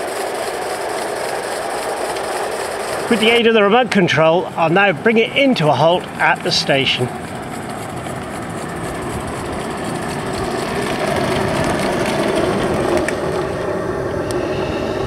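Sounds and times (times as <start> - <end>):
model steam train running on track: 0.0 - 15.0.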